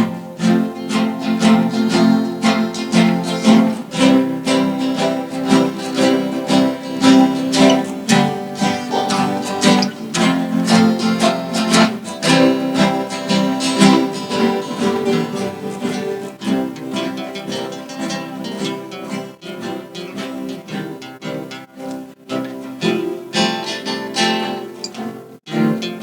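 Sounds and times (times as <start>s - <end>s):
acoustic guitars playing blues: 0.0s - 26.0s.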